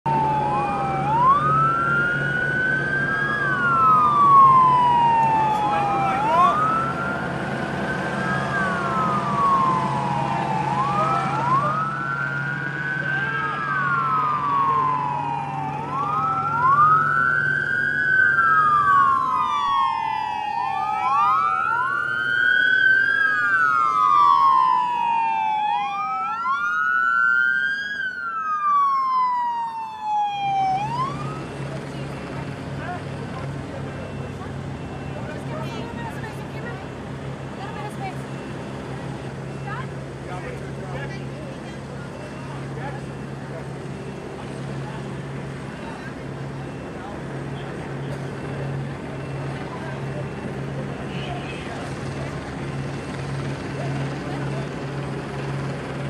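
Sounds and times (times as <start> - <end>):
police sirens wailing: 0.0 - 56.0.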